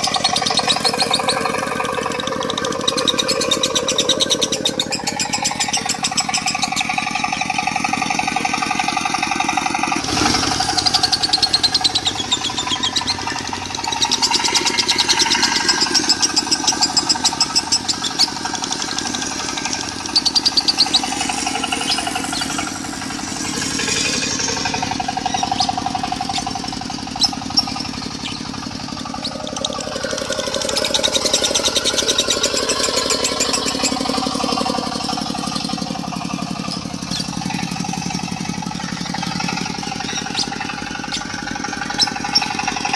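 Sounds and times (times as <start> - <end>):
bird chattering song: 0.0 - 42.9
diesel engine running: 0.0 - 42.9.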